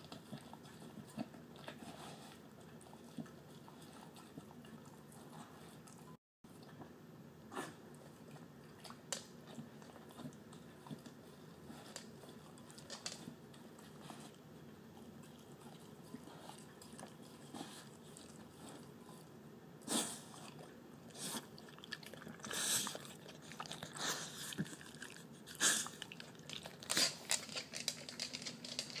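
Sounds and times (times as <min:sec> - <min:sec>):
dog licking and chewing food: 0:00.0 - 0:06.9, 0:08.0 - 0:19.4, 0:20.3 - 0:29.0.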